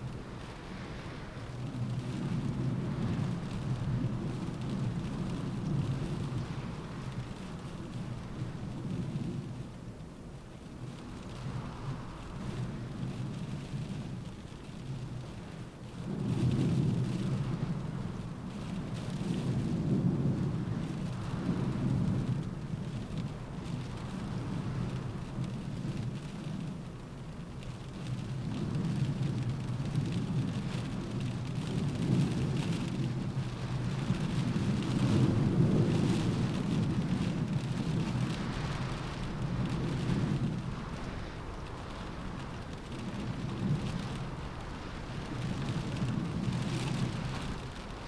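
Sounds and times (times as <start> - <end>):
gusting wind rumble: 0.0 - 48.0
rain hiss: 0.0 - 48.0.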